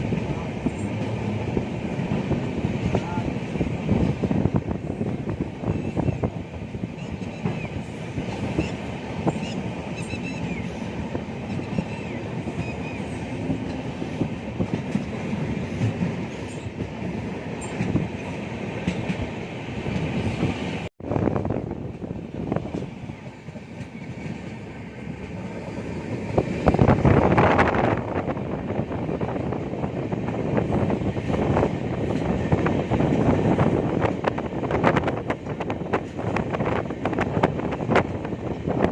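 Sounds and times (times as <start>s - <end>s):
clickety-clack over rail joints: 0.0s - 38.9s
train wheels rumbling on track: 0.0s - 38.9s.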